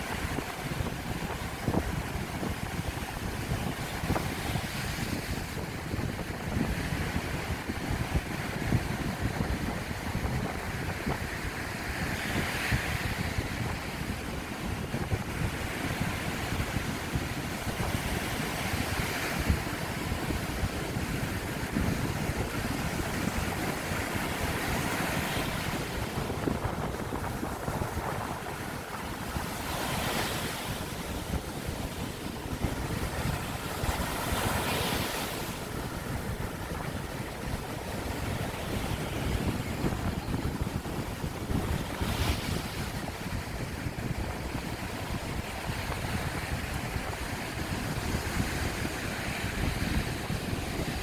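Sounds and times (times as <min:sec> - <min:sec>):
sea waves breaking on beach: 0:00.0 - 0:51.0
wind rumbling on microphone: 0:00.0 - 0:51.0.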